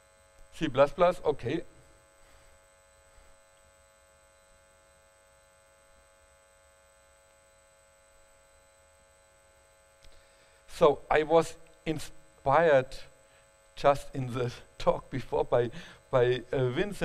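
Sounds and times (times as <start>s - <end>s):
faint electrical hum with whine: 0.0s - 17.0s.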